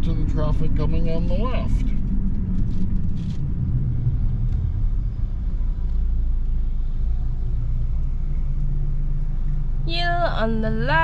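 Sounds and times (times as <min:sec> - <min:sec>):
car engine idling inside cabin: 0:00.0 - 0:11.0.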